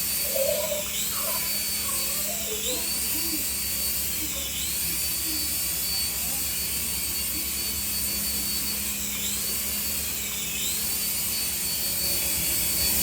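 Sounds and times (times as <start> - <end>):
remote-control toy whining: 0.0 - 13.0.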